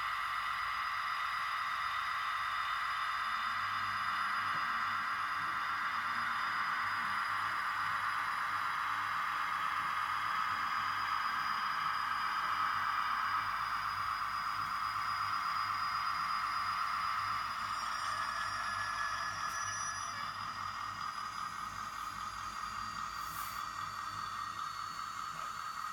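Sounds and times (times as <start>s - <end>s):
small electric motor whining: 2.0s - 25.9s.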